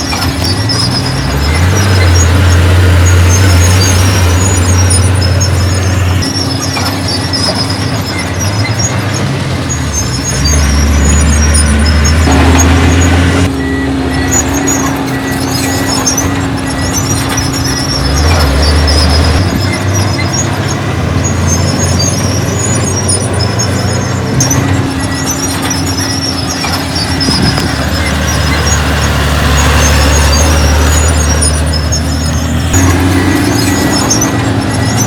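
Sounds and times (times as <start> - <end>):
heavy machinery diesel engine: 0.0 - 35.0
high metallic squeals: 0.0 - 35.0.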